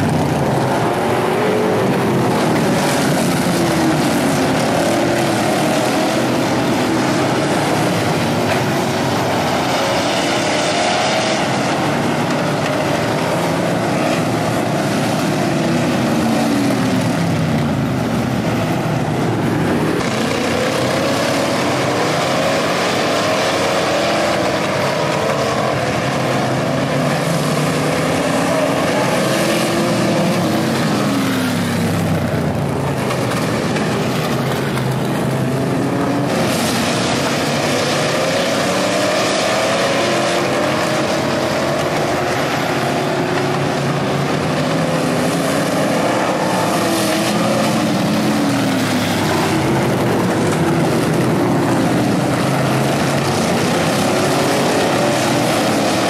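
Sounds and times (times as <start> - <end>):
race car engines passing: 0.0 - 56.0.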